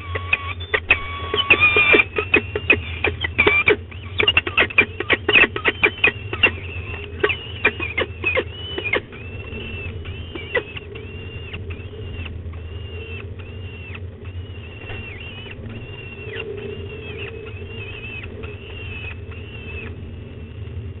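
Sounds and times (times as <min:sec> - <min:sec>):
falcon chicks begging calls: 0:00.0 - 0:20.4
steady low hum: 0:00.0 - 0:21.0.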